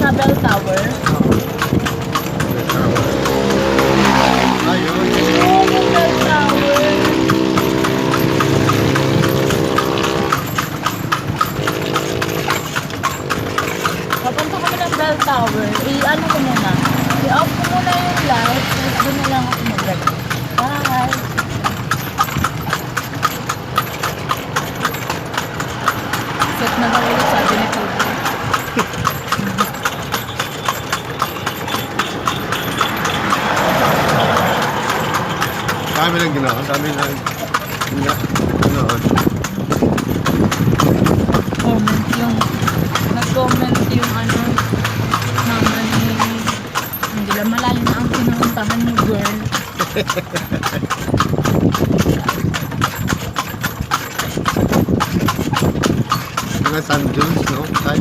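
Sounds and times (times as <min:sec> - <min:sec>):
horse hooves clip-clopping on road: 0:00.0 - 0:58.0
vehicle engine humming: 0:00.0 - 0:58.0.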